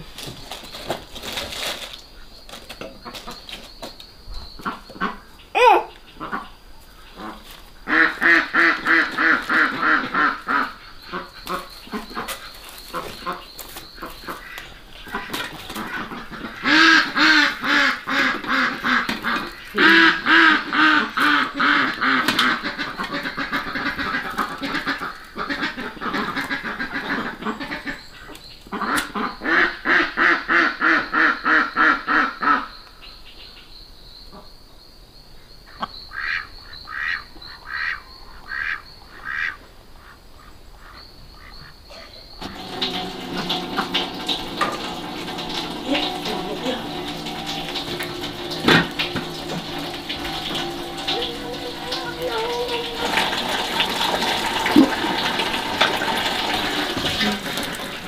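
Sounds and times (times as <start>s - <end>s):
ducks quacking: 4.6s - 32.8s, 35.7s - 58.0s.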